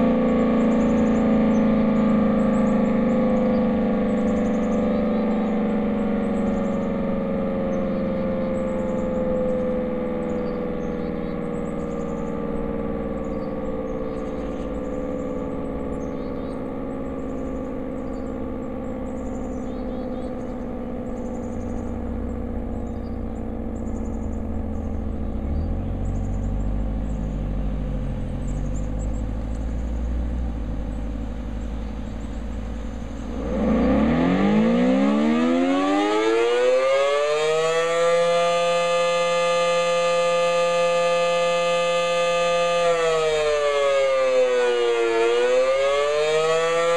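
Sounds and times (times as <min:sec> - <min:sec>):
outdoor warning siren wailing: 0:00.0 - 0:46.9.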